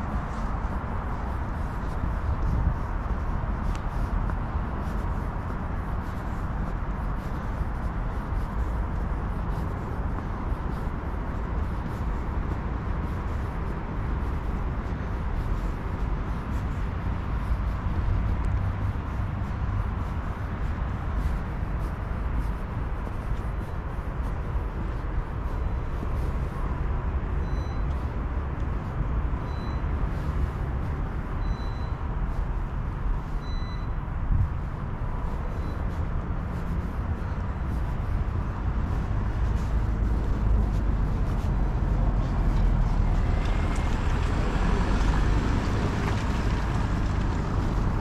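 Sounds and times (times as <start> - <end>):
low outdoor rumble: 0.0 - 48.0.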